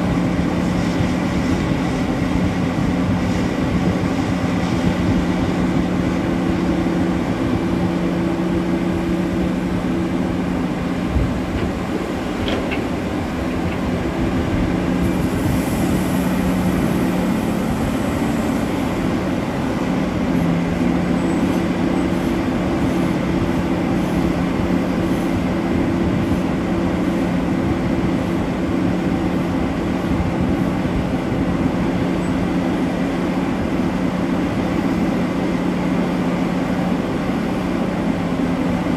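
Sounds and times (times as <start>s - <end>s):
heavy machinery engine drone: 0.0s - 38.9s.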